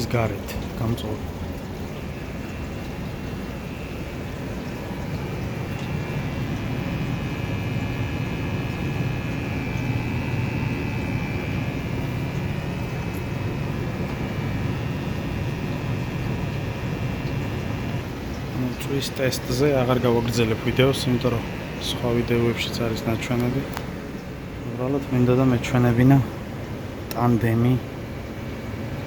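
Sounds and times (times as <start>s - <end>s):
faint high whine: 0.0s - 29.0s
furnace rumbling hum: 0.0s - 29.0s.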